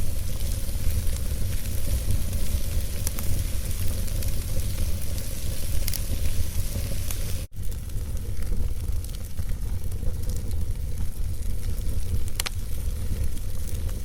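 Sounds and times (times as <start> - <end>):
fire flames rumbling: 0.0 - 14.0
wood crackling and popping: 0.0 - 14.0.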